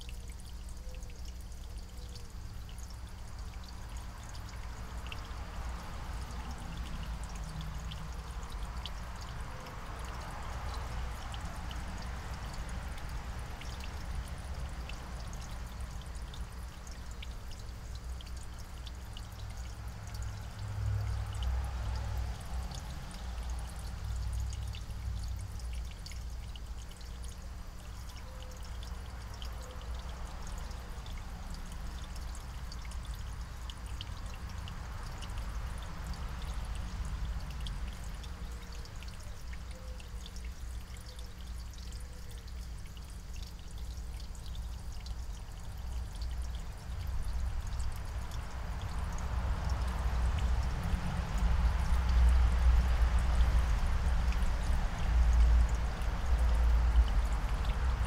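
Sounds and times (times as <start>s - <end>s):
faint ticks: 0.0s - 58.0s
soft hiss: 0.0s - 58.0s.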